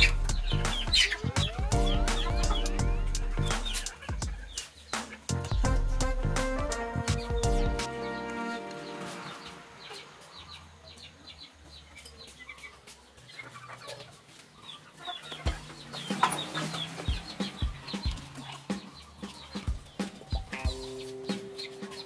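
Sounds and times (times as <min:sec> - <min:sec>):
chickens clucking: 0:00.0 - 0:05.8, 0:06.4 - 0:22.0.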